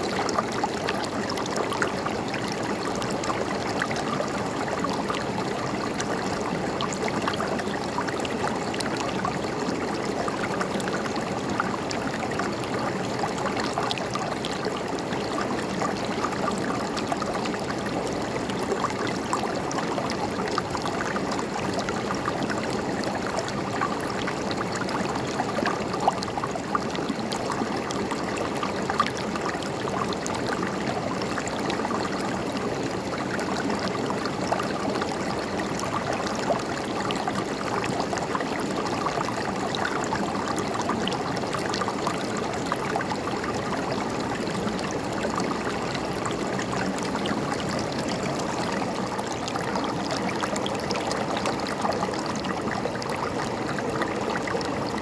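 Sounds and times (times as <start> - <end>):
river water gurgling: 0.0 - 55.0.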